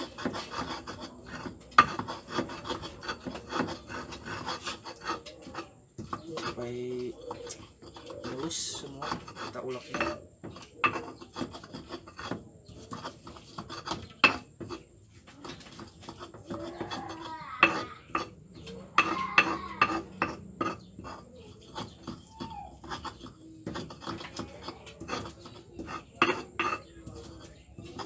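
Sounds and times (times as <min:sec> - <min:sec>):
pestle knocking against mortar: 0:00.0 - 0:06.6, 0:07.2 - 0:28.0
pestle scraping in mortar: 0:00.0 - 0:28.0.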